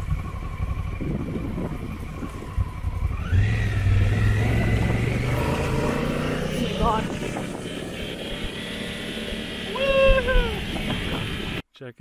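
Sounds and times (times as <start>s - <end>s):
motorcycle engine accelerating: 0.0s - 11.6s.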